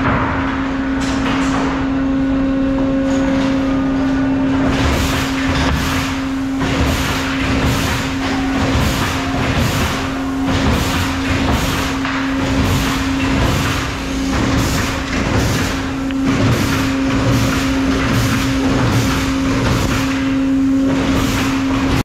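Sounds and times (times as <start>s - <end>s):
sawmill machinery droning: 0.0s - 22.0s.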